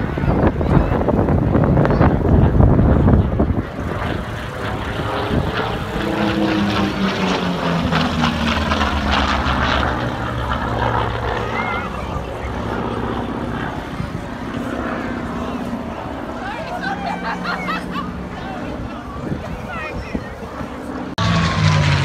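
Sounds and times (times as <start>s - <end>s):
propeller plane flying past: 0.0s - 22.0s.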